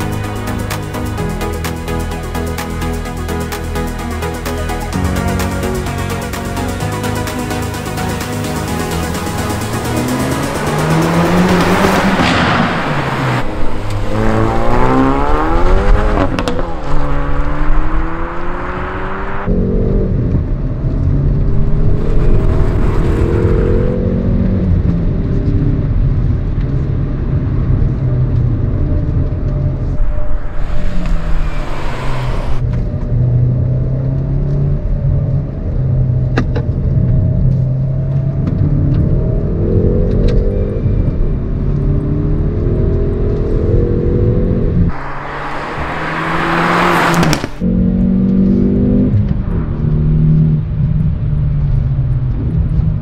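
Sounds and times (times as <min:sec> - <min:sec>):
car engine accelerating hard: 0:06.7 - 0:51.4.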